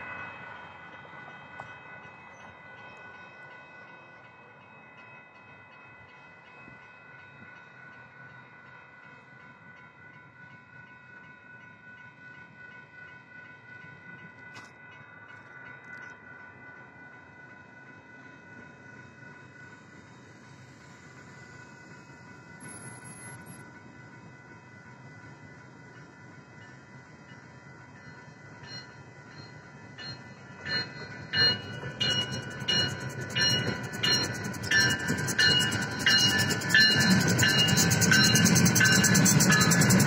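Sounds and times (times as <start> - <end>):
railroad crossing bell ringing: 0.0 - 40.0.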